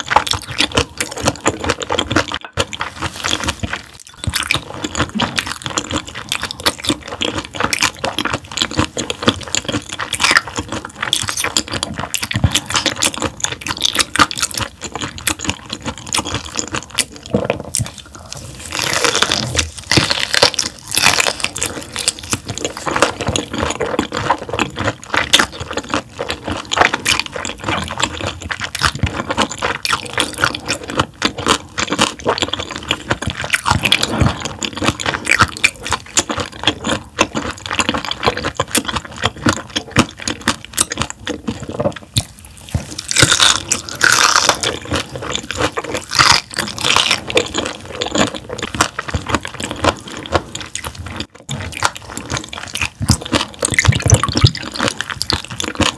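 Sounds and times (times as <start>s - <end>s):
crisp crunching of bones: 0.0s - 55.9s
wet mouth sounds: 0.0s - 55.9s.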